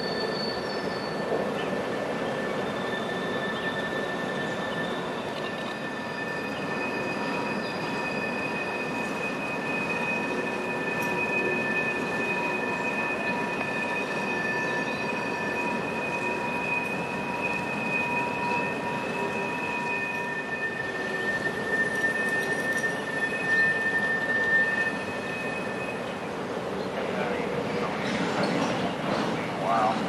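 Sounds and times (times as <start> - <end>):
steel wheels squealing: 0.0 - 30.0.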